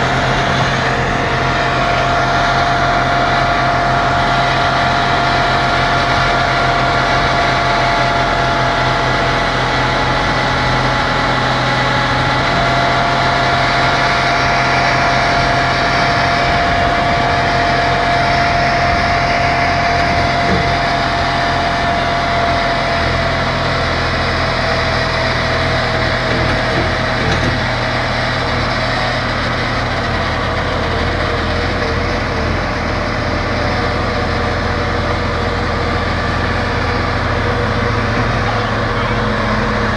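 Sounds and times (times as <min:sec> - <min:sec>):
drilling rig engine drone: 0:00.0 - 0:39.9
steady whine: 0:00.0 - 0:39.9.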